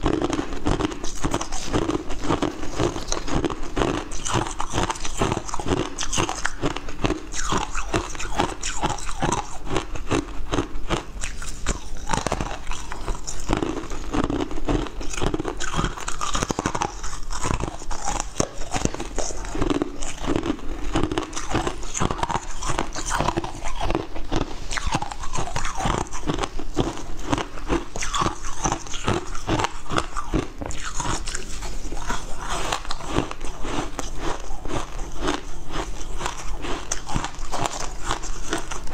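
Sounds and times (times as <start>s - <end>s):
ice being chewed with crunches: 0.0s - 38.9s.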